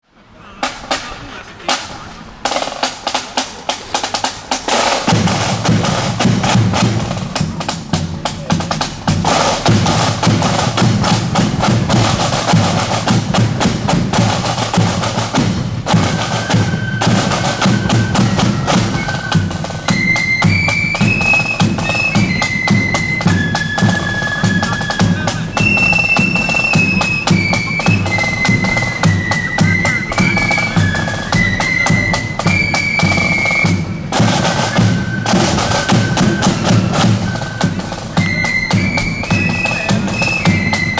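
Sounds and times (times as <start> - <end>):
flutes playing melody: 0.4 - 40.9
snare drums rattling: 0.6 - 40.9.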